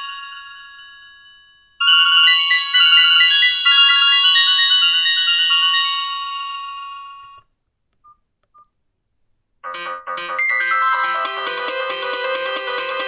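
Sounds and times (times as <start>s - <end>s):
phone ringtone chiming melody: 0.0s - 7.5s, 9.6s - 13.0s.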